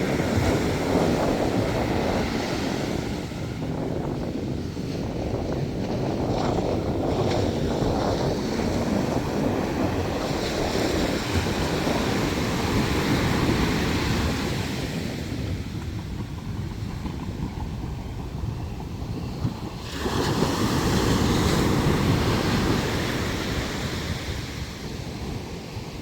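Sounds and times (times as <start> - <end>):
sea surf washing onto beach: 0.0 - 17.3, 19.4 - 26.0
wind buffeting microphone: 0.0 - 26.0.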